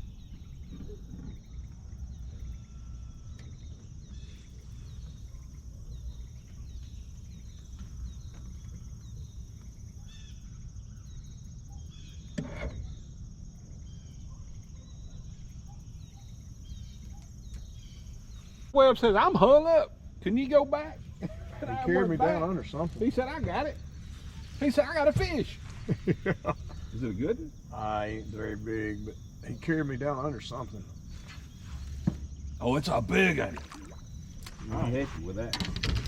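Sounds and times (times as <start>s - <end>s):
insect chorus: 0.0s - 36.0s.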